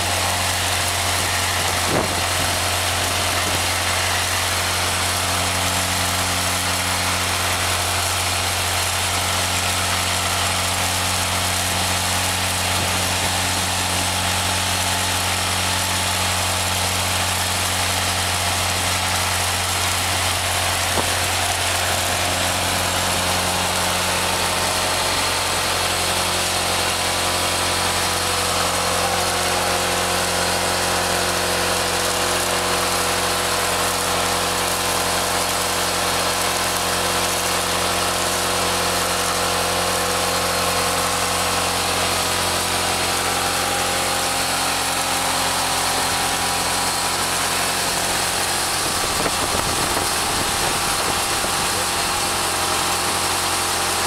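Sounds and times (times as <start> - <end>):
engine and blower running: 0.0 - 54.0.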